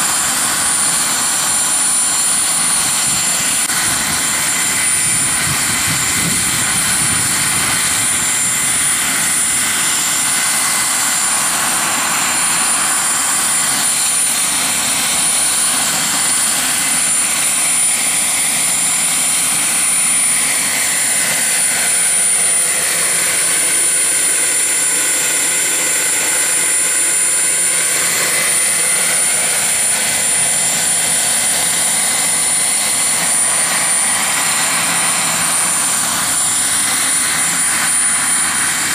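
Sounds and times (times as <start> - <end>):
high turbine whine: 0.0 - 38.9
rotor rushing: 0.0 - 38.9.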